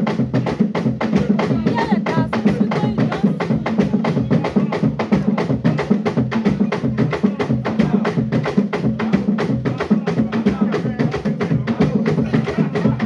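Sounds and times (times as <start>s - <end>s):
fast drumming ensemble: 0.0s - 13.0s.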